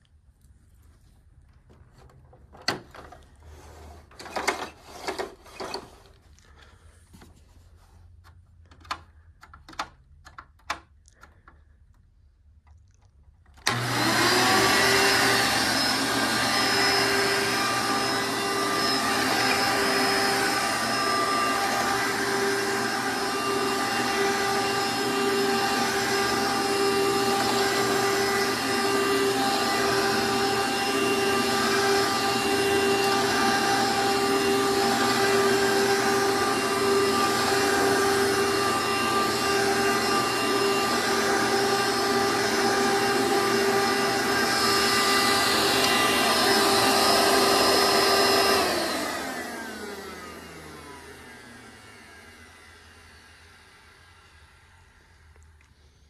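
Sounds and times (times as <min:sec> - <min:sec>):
vacuum cleaner motor running: 0:02.7 - 0:06.8, 0:13.6 - 0:56.0.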